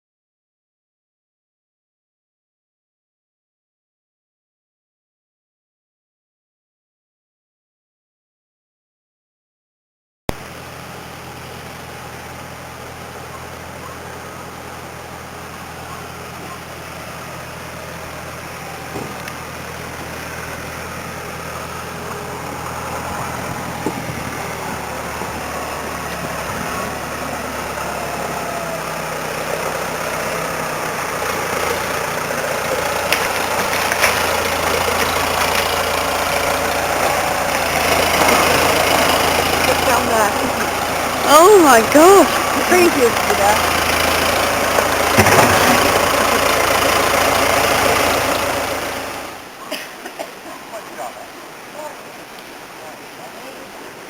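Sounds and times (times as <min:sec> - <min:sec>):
vehicle engine humming: 0:10.3 - 0:54.0.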